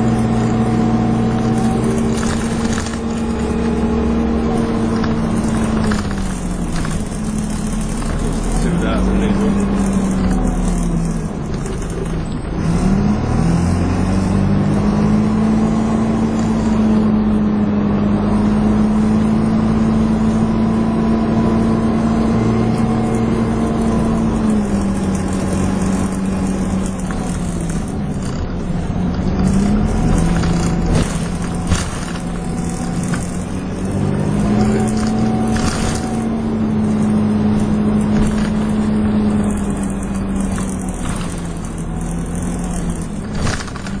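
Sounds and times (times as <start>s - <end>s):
bus engine running: 0.0s - 44.0s.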